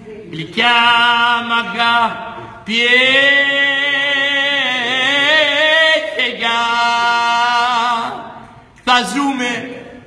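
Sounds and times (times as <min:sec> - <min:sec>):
man singing unaccompanied: 0:00.4 - 0:08.4.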